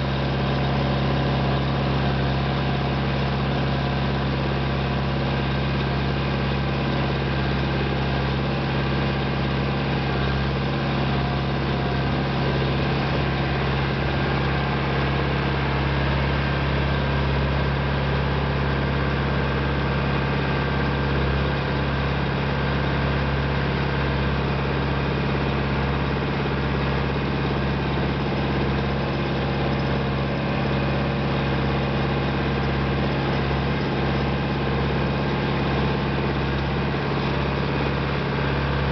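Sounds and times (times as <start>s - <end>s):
tractor engine under load: 0.0s - 38.9s.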